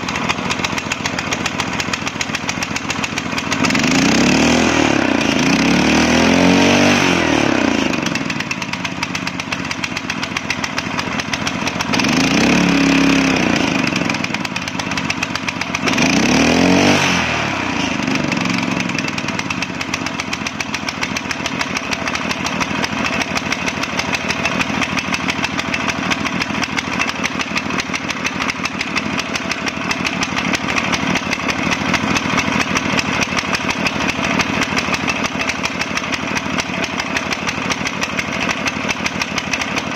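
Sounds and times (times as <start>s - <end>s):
small gasoline engine revving: 0.0s - 39.9s.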